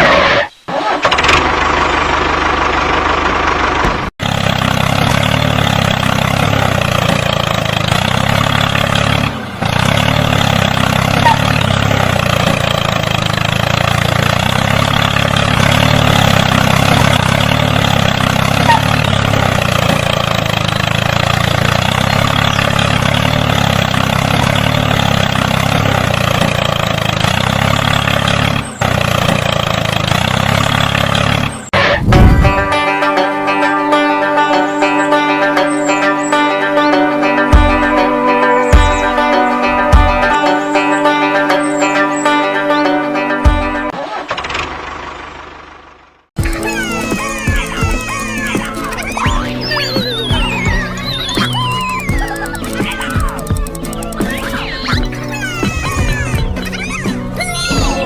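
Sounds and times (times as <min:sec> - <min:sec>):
engine idling: 0:00.7 - 0:32.8, 0:43.5 - 0:58.0.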